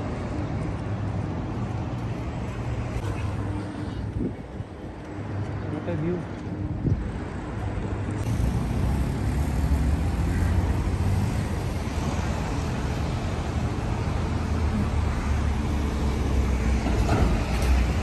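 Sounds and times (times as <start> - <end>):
cars driving by: 0.0 - 18.0.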